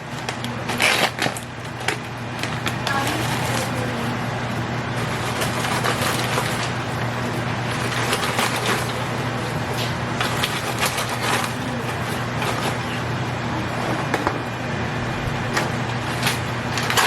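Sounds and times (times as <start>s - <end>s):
popcorn rustling and clicking: 0.0s - 17.0s
steady low hum: 0.0s - 17.0s.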